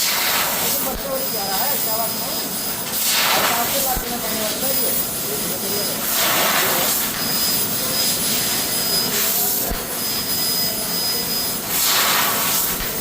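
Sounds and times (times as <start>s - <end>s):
machinery rushing and hissing: 0.0s - 13.0s
thin high whistle: 0.6s - 13.0s.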